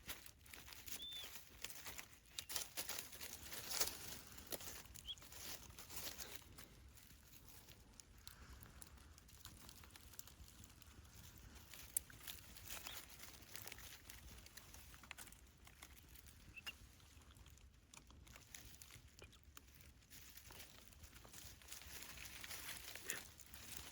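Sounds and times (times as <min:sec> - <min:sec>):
faint ticks and rustles: 0:00.0 - 0:23.9.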